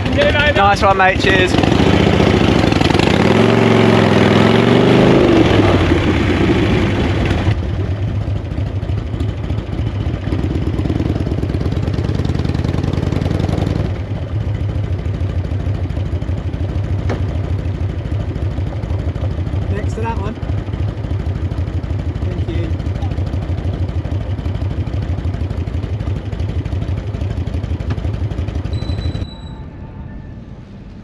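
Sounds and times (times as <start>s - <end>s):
motorcycle engine: 0.0s - 31.0s.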